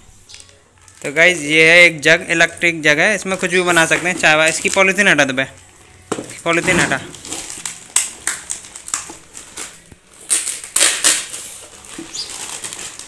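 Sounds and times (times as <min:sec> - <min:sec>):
plastic bag crinkling: 0:00.3 - 0:01.8, 0:02.4 - 0:13.0.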